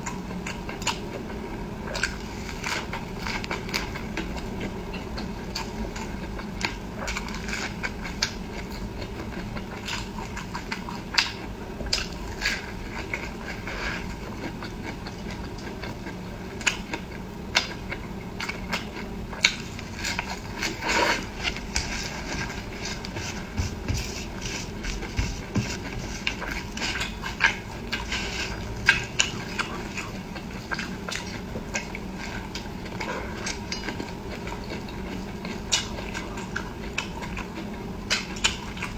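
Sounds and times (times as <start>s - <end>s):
steady low hum: 0.0s - 38.9s
wet chewing and mouth noises: 0.0s - 38.9s.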